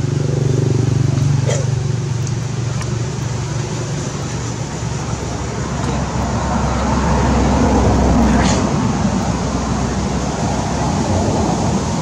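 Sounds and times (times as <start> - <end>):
low engine hum: 0.0 - 12.0
road traffic noise: 0.0 - 12.0
vehicle approaching: 0.0 - 12.0.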